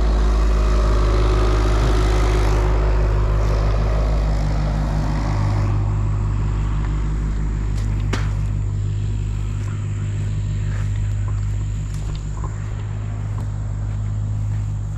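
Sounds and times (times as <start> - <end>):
large engine running: 0.0 - 14.9.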